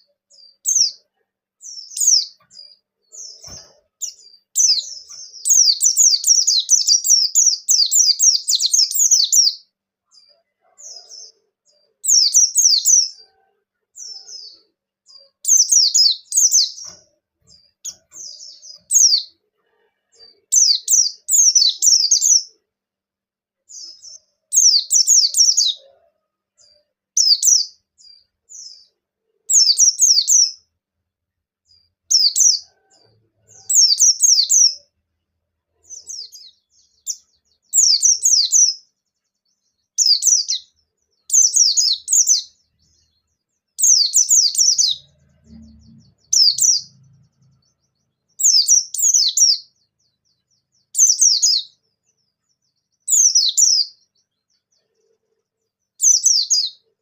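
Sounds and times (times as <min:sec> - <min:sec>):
white-eye bird chattering song: 0:00.0 - 0:13.4, 0:14.0 - 0:19.4, 0:20.4 - 0:22.6, 0:23.7 - 0:28.9, 0:32.1 - 0:34.9, 0:35.8 - 0:38.8, 0:40.0 - 0:43.2, 0:43.8 - 0:51.8, 0:52.9 - 0:55.4, 0:56.0 - 0:57.0.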